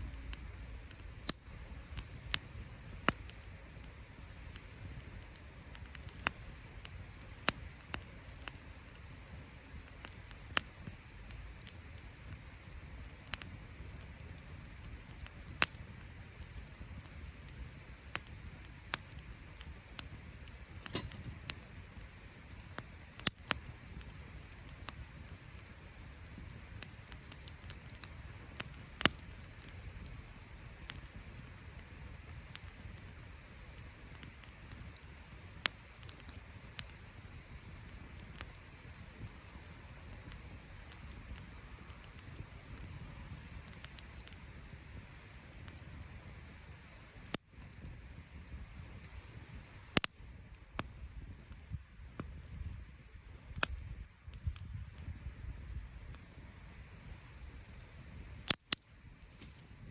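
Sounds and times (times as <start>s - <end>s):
campfire crackling: 0.0s - 59.9s
sharp pops of burning wood: 0.0s - 59.9s.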